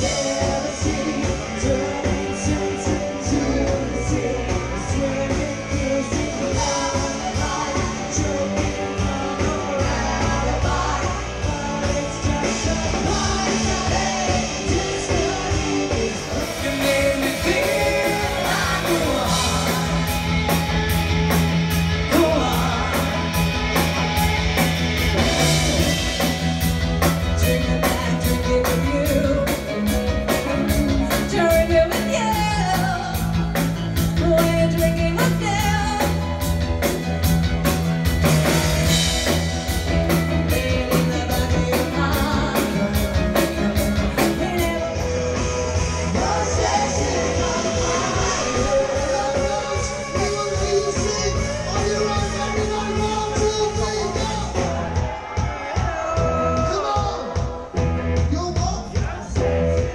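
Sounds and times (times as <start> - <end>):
live pop rock band with singing: 0.0 - 59.9
steady drum beat: 0.0 - 59.9.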